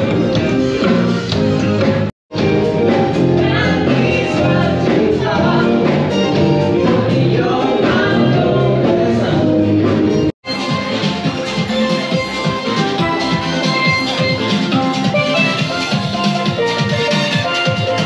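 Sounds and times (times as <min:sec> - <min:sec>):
music with singing voices: 0:00.0 - 0:18.0.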